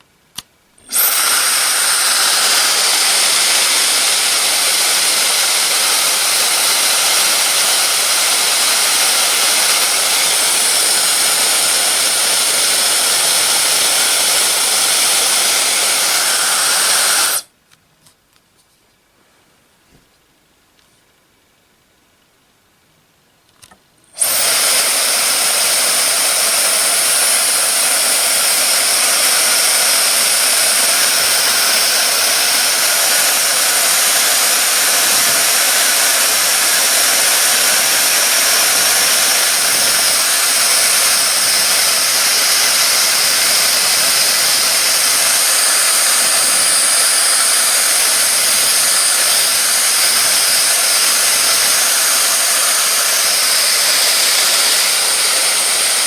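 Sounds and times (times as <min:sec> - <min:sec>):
hair dryer running: 0:00.8 - 0:17.5, 0:24.2 - 0:56.0.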